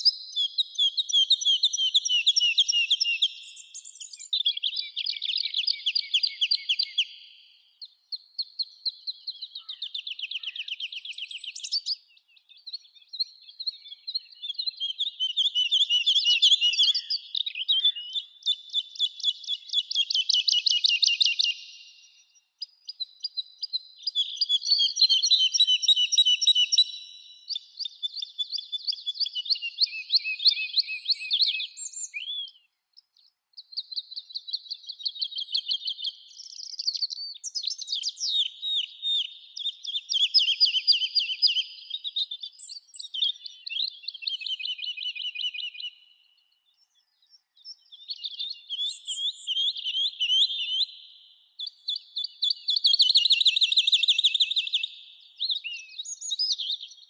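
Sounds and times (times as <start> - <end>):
songbird singing high trills: 0.0 - 57.0.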